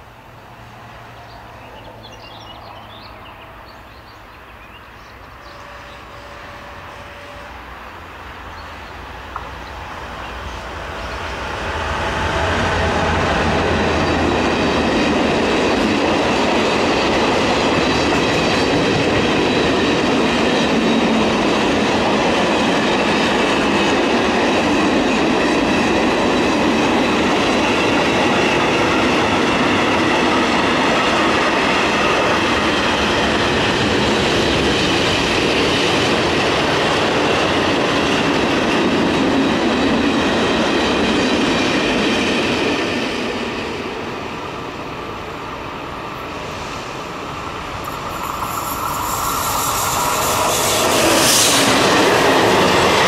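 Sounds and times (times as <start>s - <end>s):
train wheels rolling on rails: 7.0s - 53.0s.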